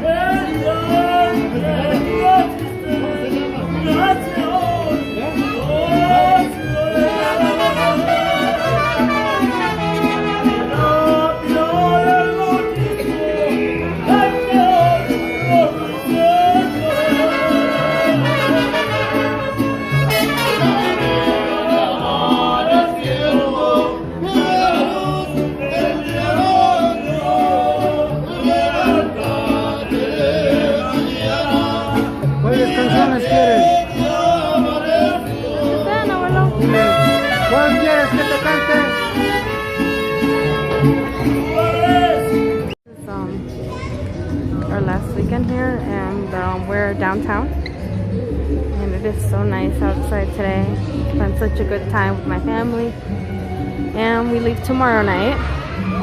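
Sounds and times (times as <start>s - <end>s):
latin music with male vocals: 0.0s - 43.0s, 44.2s - 56.0s.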